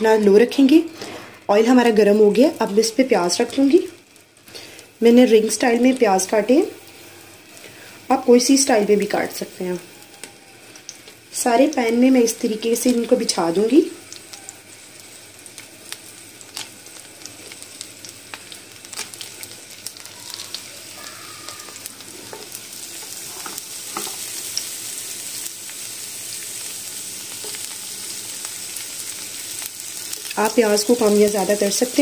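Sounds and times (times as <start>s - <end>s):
onions sizzling in hot oil: 0.0s - 32.0s.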